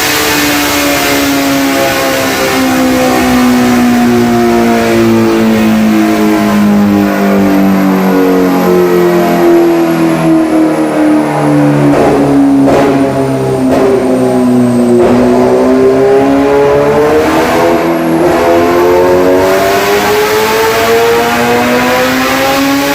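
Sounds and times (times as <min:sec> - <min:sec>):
exhaust crackles: 0:00.0 - 0:21.8
motorcycle engine running hard: 0:00.0 - 0:22.9.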